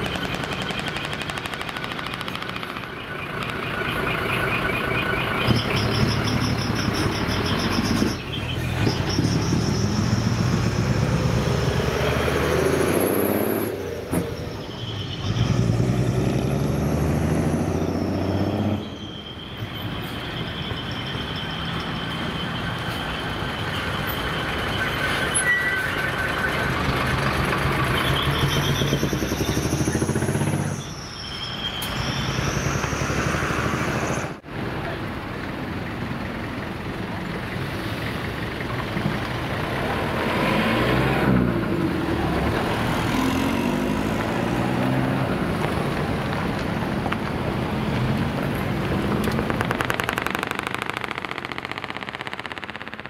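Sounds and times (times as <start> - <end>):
truck diesel engines: 0.0 - 53.0.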